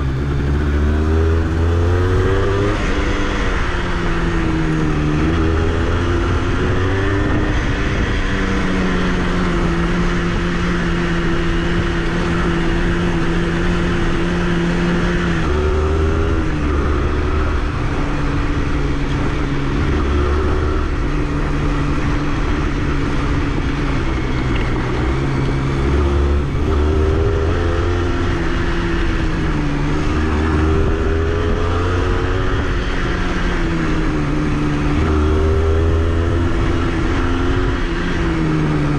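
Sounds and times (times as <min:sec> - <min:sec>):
two-stroke motorcycle engine: 0:00.0 - 0:38.9.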